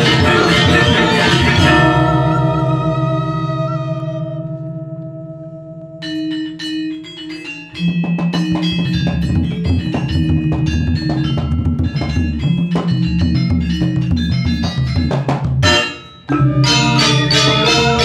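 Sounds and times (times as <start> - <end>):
gamelan ensemble playing fast: 0.0 - 18.0
ringing bronze gong tones: 0.0 - 18.0
struck metallophone notes: 0.0 - 18.0.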